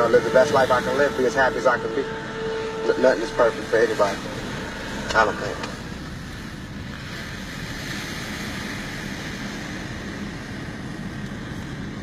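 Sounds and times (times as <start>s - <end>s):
sea waves: 0.0s - 12.0s
wind: 0.0s - 12.0s.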